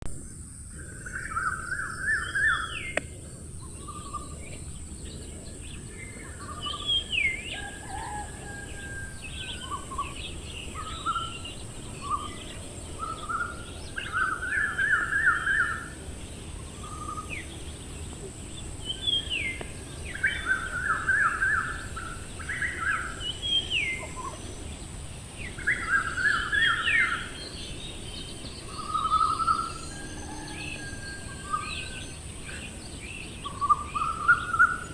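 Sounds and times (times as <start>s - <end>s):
steady high hiss: 0.2s - 34.9s
small birds trilling and whistling: 0.3s - 34.9s.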